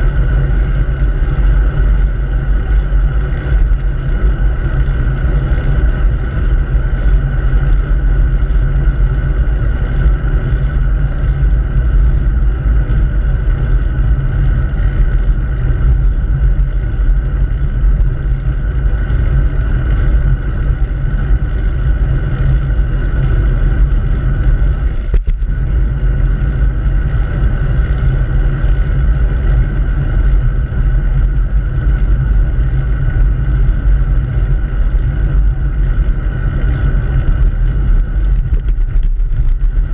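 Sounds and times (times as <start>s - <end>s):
bicycle road noise: 0.0s - 39.9s
wind rush on microphone: 0.0s - 39.9s.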